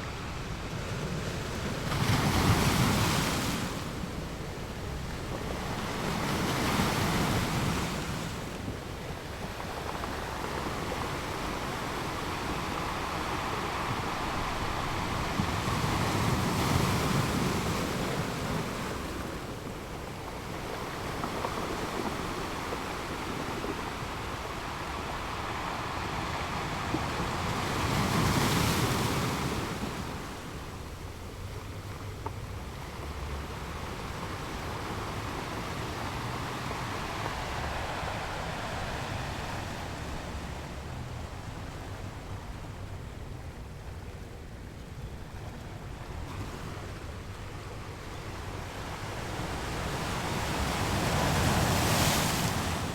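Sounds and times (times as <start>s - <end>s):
ocean waves washing on shore: 0.0s - 52.9s.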